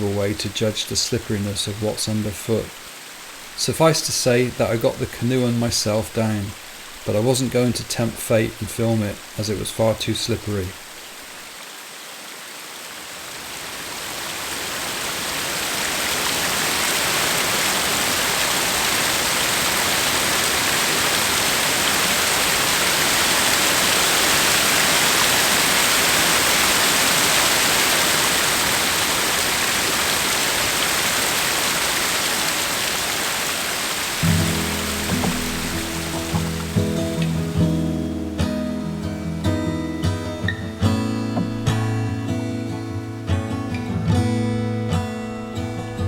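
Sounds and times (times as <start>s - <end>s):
water roaring over weir: 0.0s - 38.0s.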